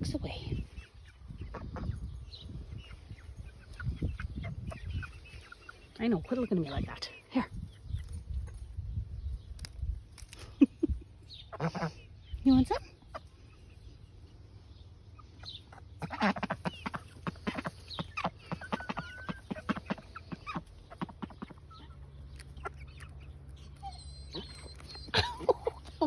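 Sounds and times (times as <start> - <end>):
chickens clucking: 0.0 - 8.8, 9.4 - 26.0.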